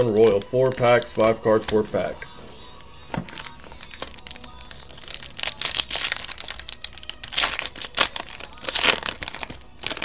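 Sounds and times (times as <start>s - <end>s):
foil wrapper tearing and crinkling: 0.0s - 1.9s, 2.8s - 10.0s.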